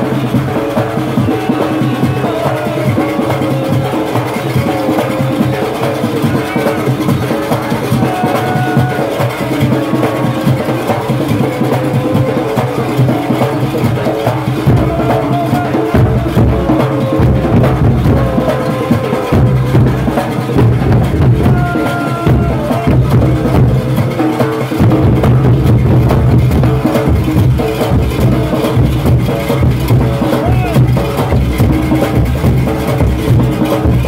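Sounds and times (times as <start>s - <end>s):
large drums beating: 0.0s - 34.0s.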